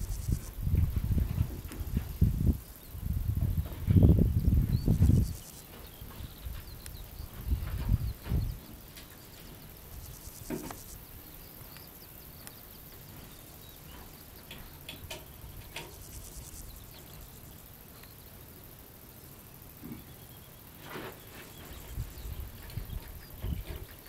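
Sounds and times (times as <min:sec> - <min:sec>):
distant birds chirping: 0:00.0 - 0:24.0.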